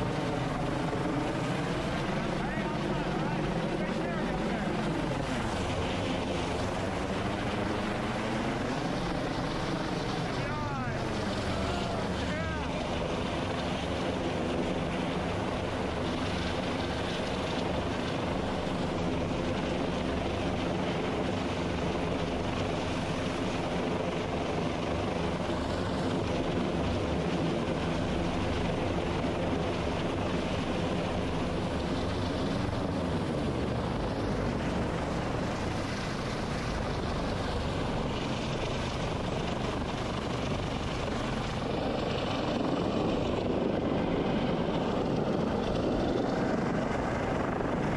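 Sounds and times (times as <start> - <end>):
helicopter drone: 0.0 - 47.9.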